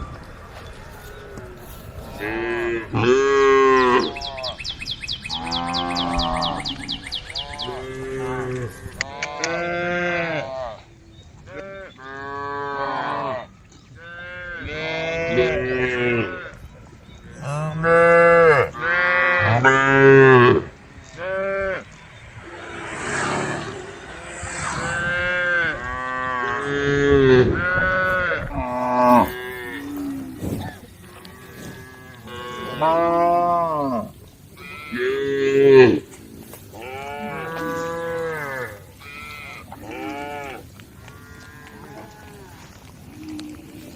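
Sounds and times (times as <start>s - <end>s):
cows mooing: 0.0s - 4.7s, 5.3s - 10.8s, 11.5s - 16.6s, 17.4s - 43.9s.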